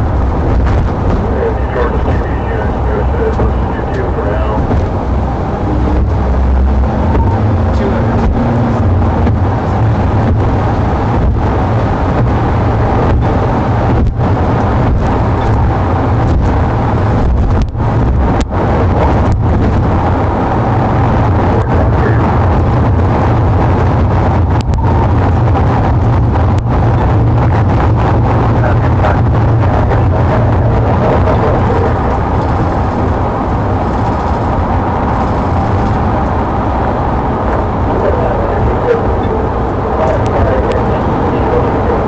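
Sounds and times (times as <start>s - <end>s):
car engine: 0.0s - 42.0s
wind noise: 0.0s - 42.0s.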